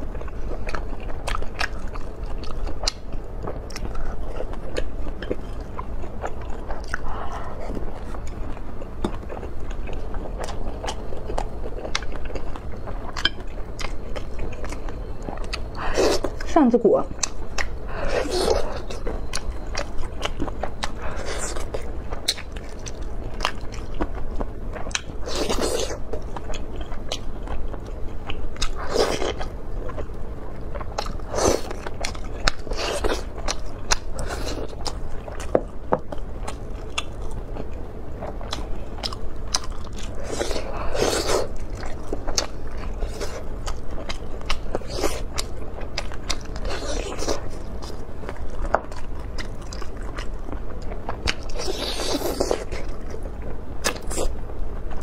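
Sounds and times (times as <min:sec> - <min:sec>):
biting and chewing meat: 0:00.0 - 0:55.0.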